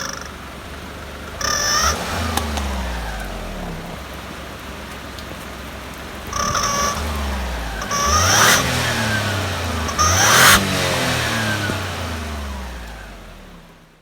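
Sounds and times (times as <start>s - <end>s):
engine revving: 0.0s - 4.9s, 6.1s - 14.0s.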